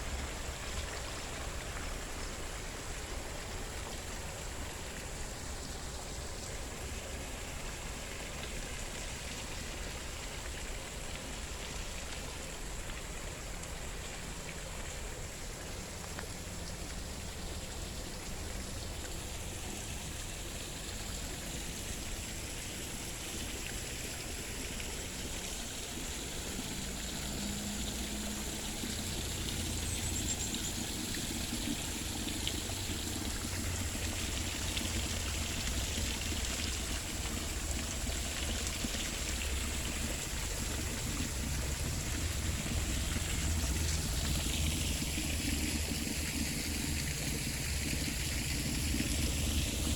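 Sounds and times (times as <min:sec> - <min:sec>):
water running and trickling: 0:00.0 - 0:49.9.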